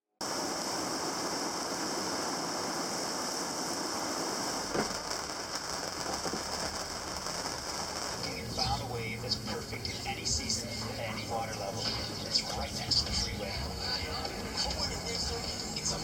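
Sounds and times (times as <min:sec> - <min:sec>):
steady hiss: 0:00.2 - 0:16.0.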